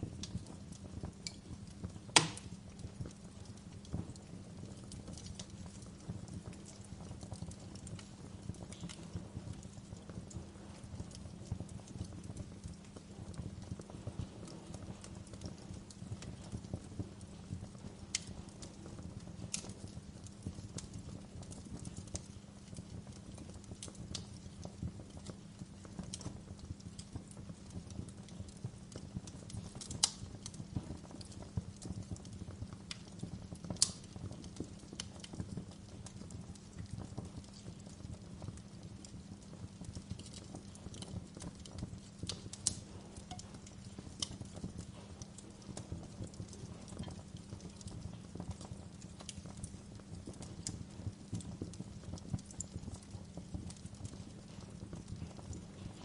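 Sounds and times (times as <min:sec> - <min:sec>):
fire crackling and popping: 0:00.0 - 0:56.0
wood fire burning: 0:00.0 - 0:56.0.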